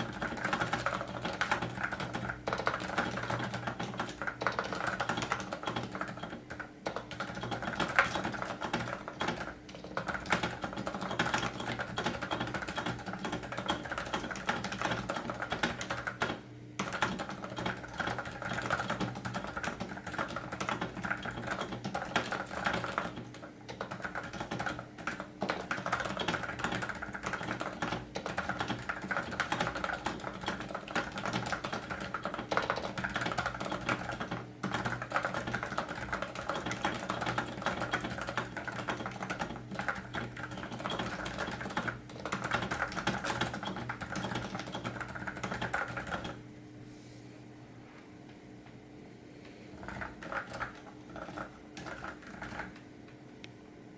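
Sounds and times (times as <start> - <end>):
fast keyboard typing: 0.0 - 46.4, 49.8 - 52.8.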